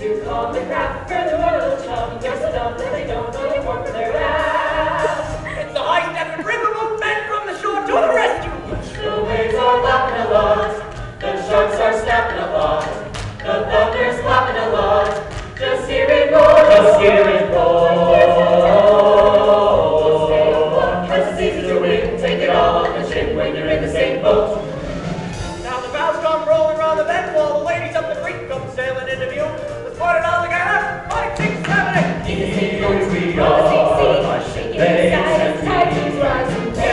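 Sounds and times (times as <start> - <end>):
chorus singing: 0.0 - 36.9
instrumental accompaniment: 0.0 - 36.9.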